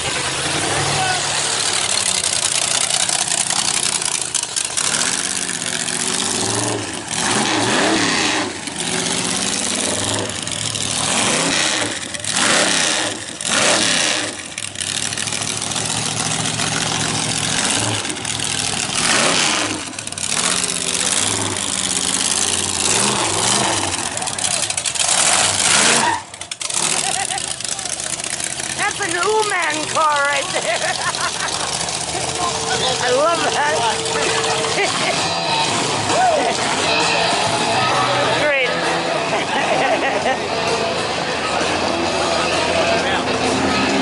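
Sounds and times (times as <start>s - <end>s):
engine idling and revving: 0.0s - 44.0s.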